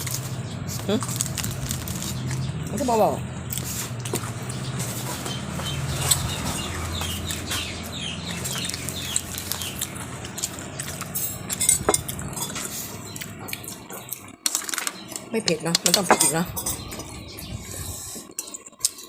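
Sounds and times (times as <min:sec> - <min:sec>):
steady low hum: 0:00.0 - 0:18.9
chickens clucking: 0:01.9 - 0:19.0.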